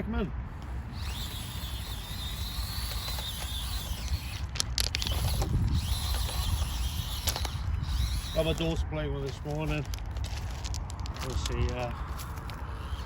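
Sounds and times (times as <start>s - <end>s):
small motor whining: 0.5s - 13.0s.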